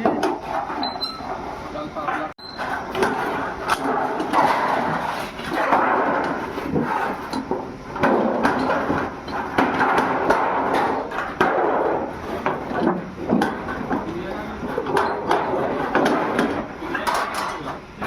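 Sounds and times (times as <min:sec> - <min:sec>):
metalworking clatter: 0:02.0 - 0:17.8.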